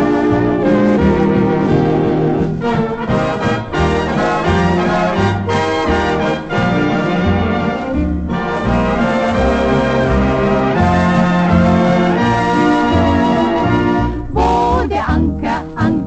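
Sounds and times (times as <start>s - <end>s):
dance orchestra with brass: 0.0s - 14.3s.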